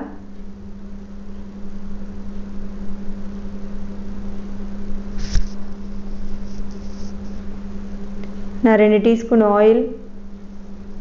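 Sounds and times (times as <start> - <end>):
low appliance hum: 0.0 - 11.0.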